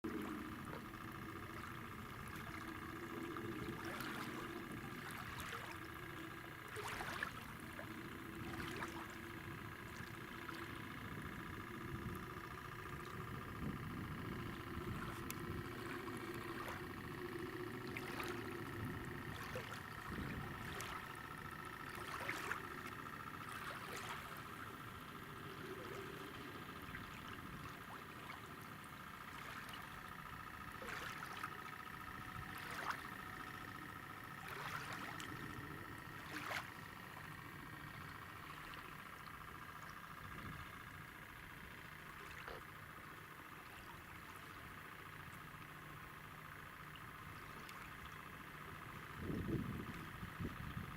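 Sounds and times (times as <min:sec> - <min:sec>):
water lapping: 0:00.1 - 0:50.9.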